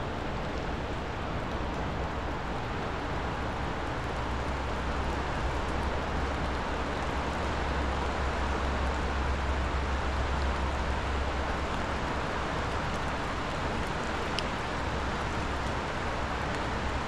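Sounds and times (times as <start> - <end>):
river rushing in flood: 0.0 - 17.0.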